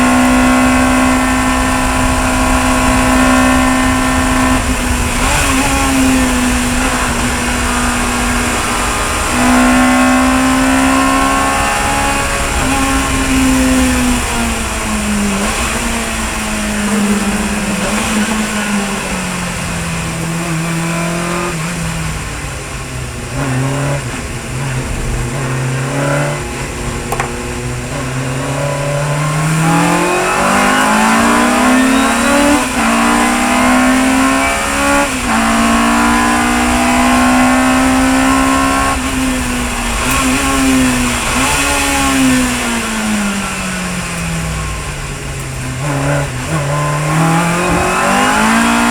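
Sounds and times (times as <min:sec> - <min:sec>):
racing car engine revving: 0:00.0 - 0:48.9.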